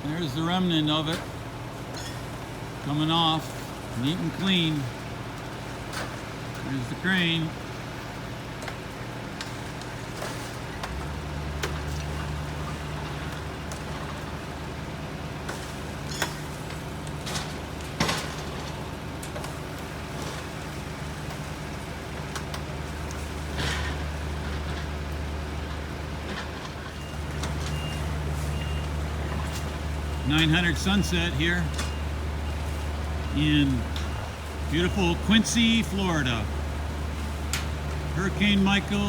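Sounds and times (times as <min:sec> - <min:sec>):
crane engine humming: 0:00.0 - 0:39.0.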